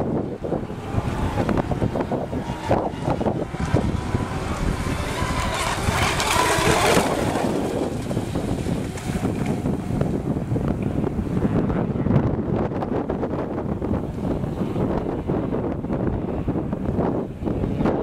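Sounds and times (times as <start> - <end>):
electric racing boats running: 0.0 - 18.0
wind buffeting microphone: 0.0 - 18.0.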